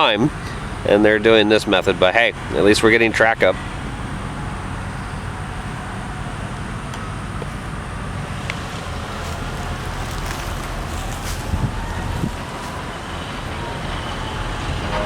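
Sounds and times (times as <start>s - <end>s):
low rumble of machinery: 0.0s - 15.0s.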